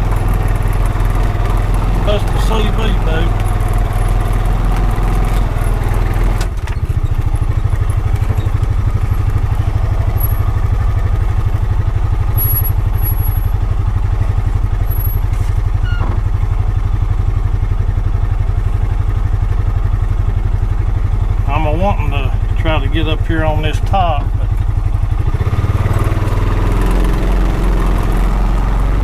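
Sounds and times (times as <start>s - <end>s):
engine running while driving: 0.0s - 29.0s.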